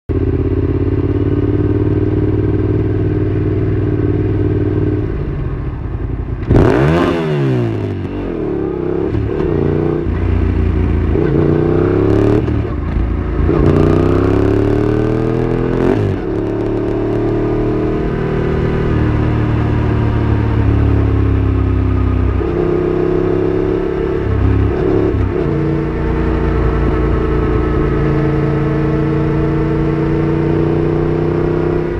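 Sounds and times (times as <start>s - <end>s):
motorcycle engine revving: 0.1s - 31.9s.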